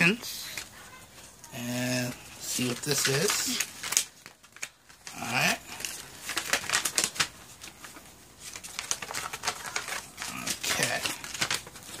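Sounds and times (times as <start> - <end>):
paper rustling and crinkling: 0.1 - 12.0.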